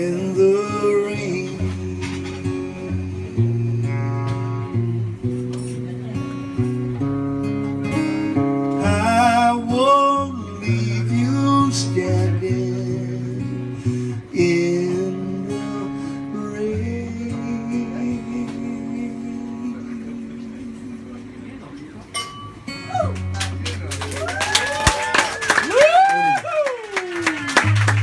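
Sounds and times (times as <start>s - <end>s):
acoustic guitar strummed and picked: 0.0s - 24.0s, 27.3s - 28.0s.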